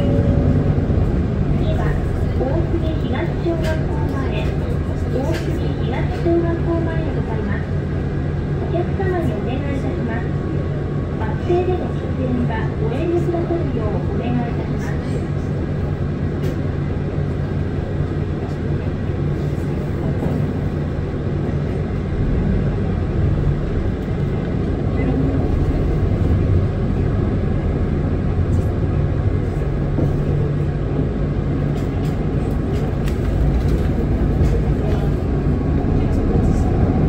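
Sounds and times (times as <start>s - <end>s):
road noise: 0.0s - 13.1s, 13.8s - 37.0s
bus engine drone: 0.0s - 37.0s.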